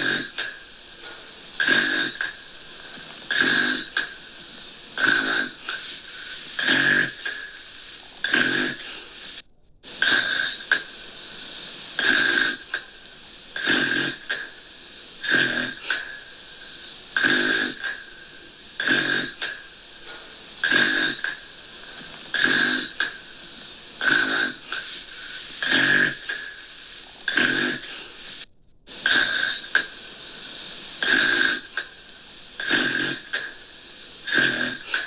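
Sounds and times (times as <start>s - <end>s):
gentle snoring: 0.0s - 35.0s.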